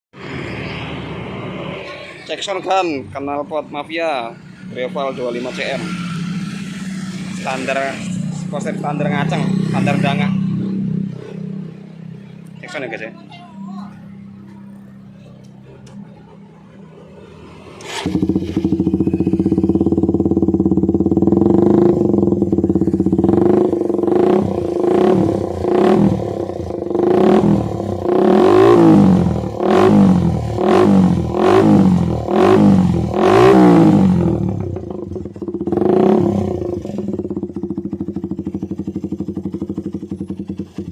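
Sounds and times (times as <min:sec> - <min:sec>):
motorcycle engine idling and revving: 0:00.2 - 0:40.9.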